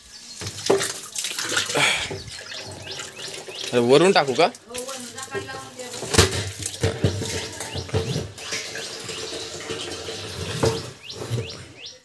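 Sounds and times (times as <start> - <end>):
water running from a hose: 0.0 - 11.9.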